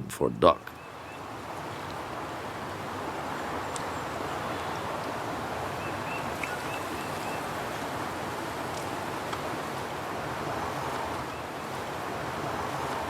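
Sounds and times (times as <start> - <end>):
wind: 0.0 - 13.0
rushing water: 0.8 - 13.0.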